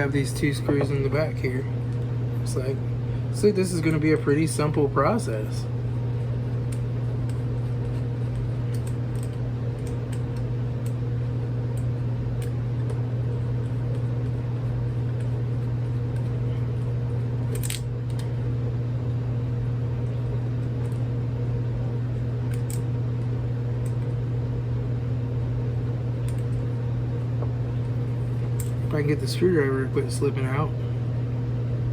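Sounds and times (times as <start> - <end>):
low machine hum: 0.0 - 31.9.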